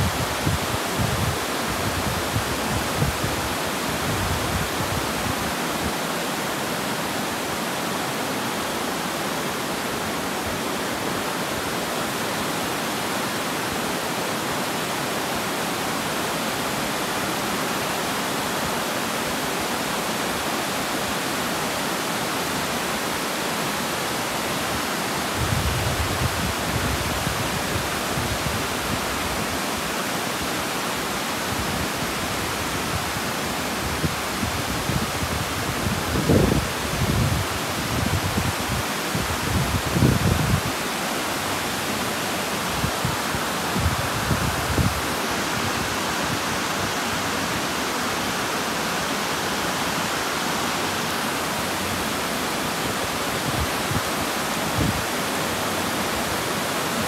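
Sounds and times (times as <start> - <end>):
water cascading over a weir: 0.0 - 57.0.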